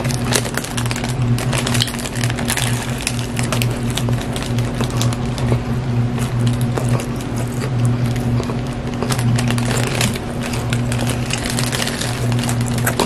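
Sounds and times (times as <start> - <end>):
wet chewing clicks and crackles: 0.0 - 13.0.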